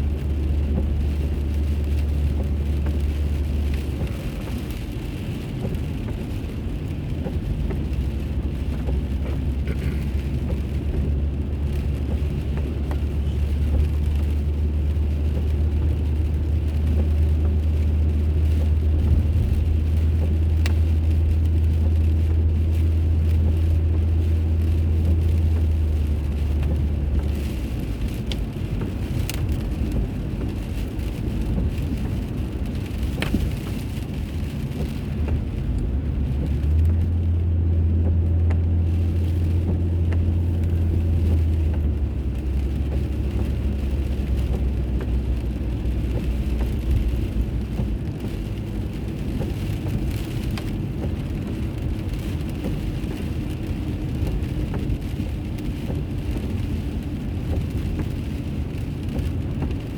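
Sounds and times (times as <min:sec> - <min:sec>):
car engine and road noise drone: 0:00.0 - 0:59.9.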